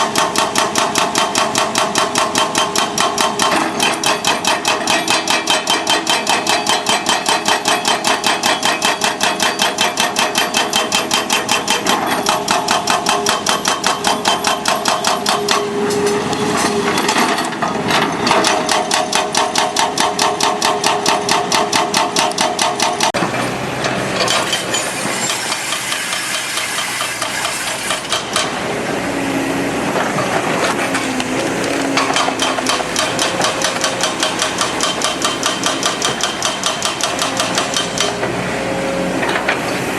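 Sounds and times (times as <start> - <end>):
excavator hammering: 0.0 - 24.7, 25.3 - 29.1, 29.8 - 39.9
engine and hydraulic noise: 0.0 - 39.9.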